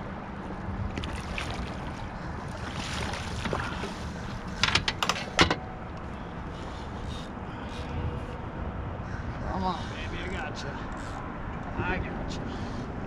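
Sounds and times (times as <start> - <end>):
water noise around boat: 0.0 - 13.0
wind: 0.0 - 13.0.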